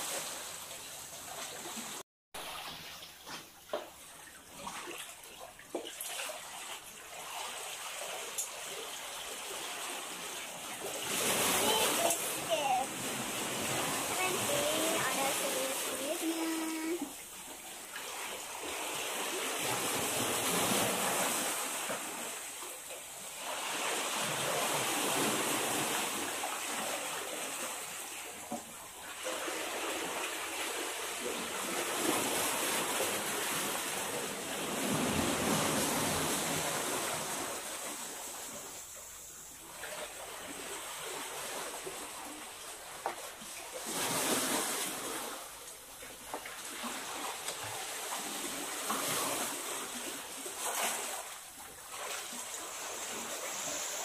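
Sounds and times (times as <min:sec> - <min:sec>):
waves surging in rocky channel: 0:00.0 - 0:54.0.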